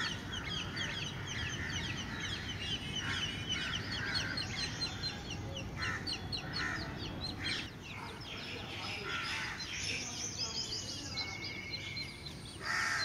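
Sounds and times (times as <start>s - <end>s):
birds chirping: 0.0s - 13.0s
harsh bird calls: 0.0s - 13.0s.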